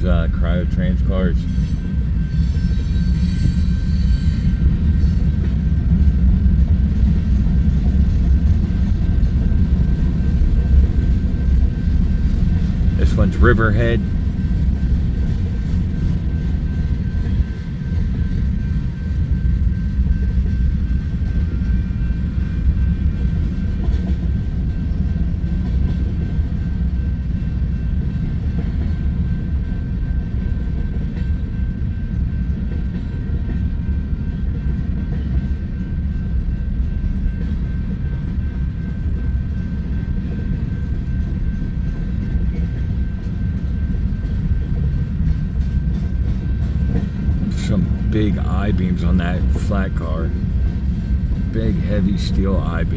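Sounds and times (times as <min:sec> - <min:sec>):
train wheels rumbling on rails: 0:00.0 - 0:48.4.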